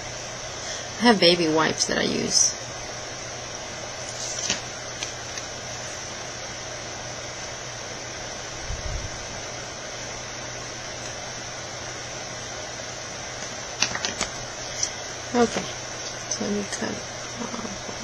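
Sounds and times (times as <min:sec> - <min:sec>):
low hum: 0:00.0 - 0:18.0
steady background hiss: 0:00.0 - 0:18.0.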